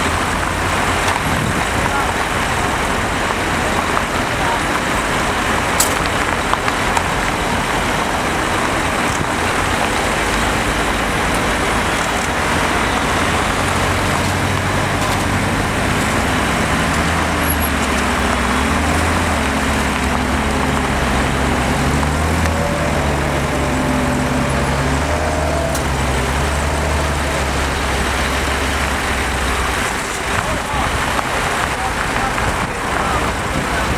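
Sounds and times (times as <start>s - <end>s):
street traffic: 0.0s - 33.9s
truck engine revving: 0.0s - 33.9s.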